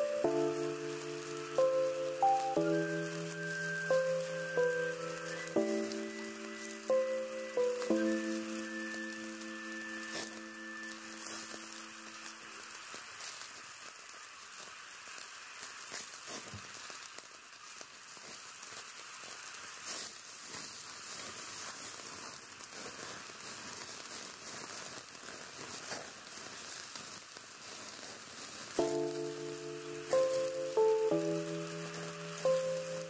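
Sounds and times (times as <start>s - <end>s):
onions sizzling in pot: 0.0s - 33.0s.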